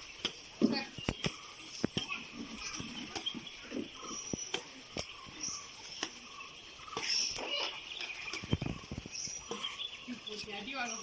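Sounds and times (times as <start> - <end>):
faint insect hum: 0.0 - 11.0.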